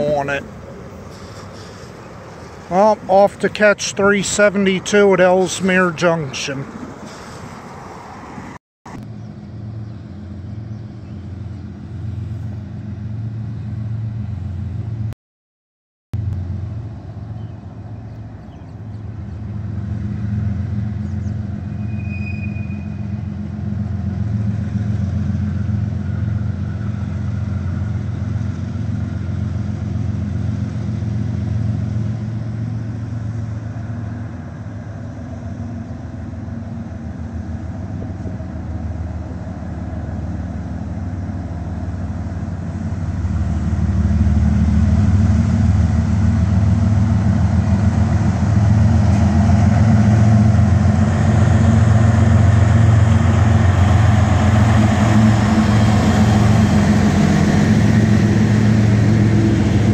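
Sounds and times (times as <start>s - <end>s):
locomotive engine drone: 0.0s - 15.1s, 16.2s - 59.9s.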